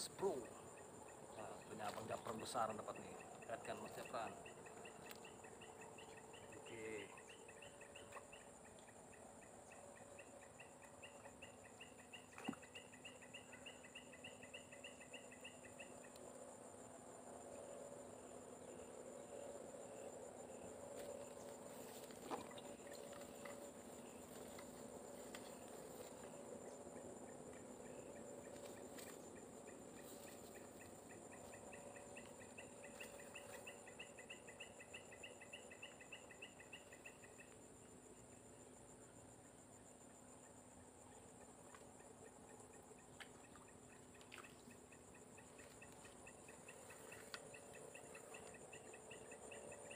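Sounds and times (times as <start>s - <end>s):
fast pulsing insect chirp: 0.0s - 49.9s
insect buzz: 0.0s - 49.9s.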